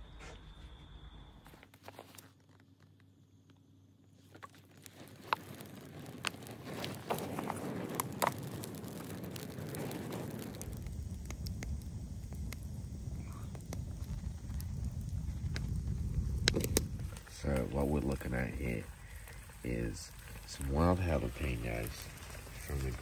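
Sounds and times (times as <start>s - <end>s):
campfire crackling and popping: 1.4s - 23.0s.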